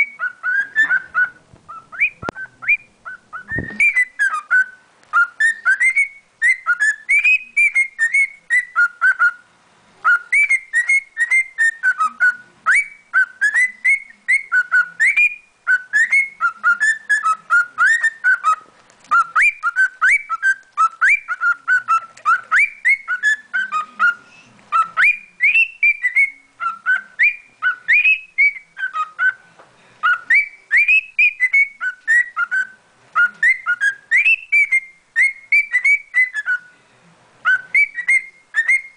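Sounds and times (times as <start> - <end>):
cockatiel whistling song: 0.0 - 36.8, 37.4 - 38.9.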